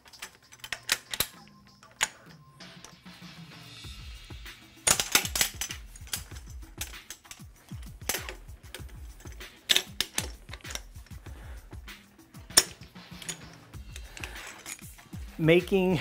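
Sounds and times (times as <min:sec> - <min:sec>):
torque wrench clicking and clanking: 0:00.0 - 0:03.0, 0:04.7 - 0:15.3.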